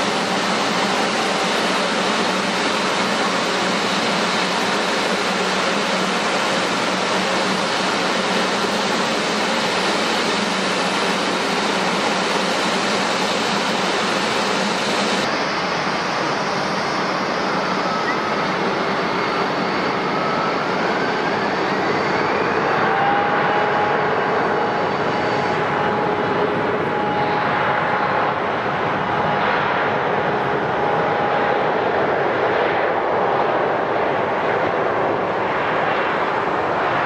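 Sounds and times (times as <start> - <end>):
jet engines roaring at takeoff: 0.0 - 37.0
rising engine whine: 0.0 - 37.0.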